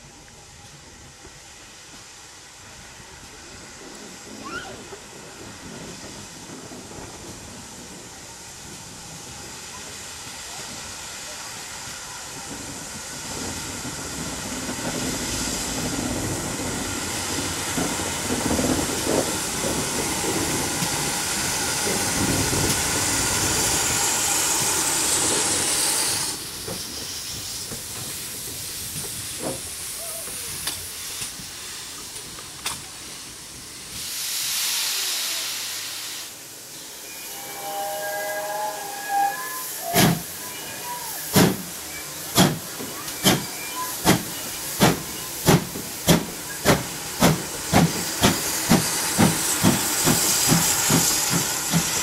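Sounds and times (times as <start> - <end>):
steam hissing: 0.0 - 52.0
steam locomotive exhaust chuffs: 0.4 - 52.0.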